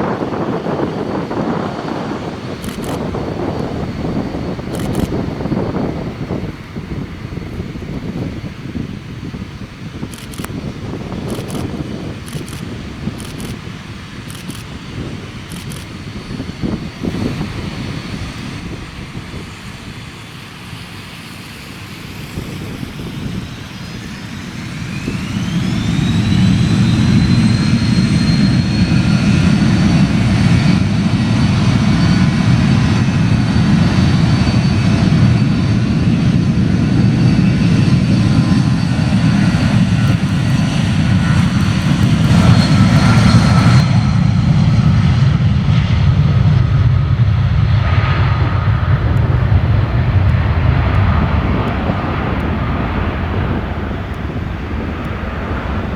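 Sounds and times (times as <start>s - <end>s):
high engine whine: 0.0s - 55.9s
jet engines spooling up: 0.0s - 55.9s.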